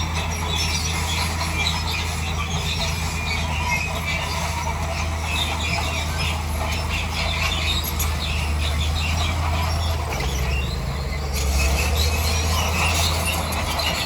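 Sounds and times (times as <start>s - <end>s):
bulldozer engine rumbling: 0.0s - 14.0s
steel tracks squeaking and clicking: 0.0s - 14.0s.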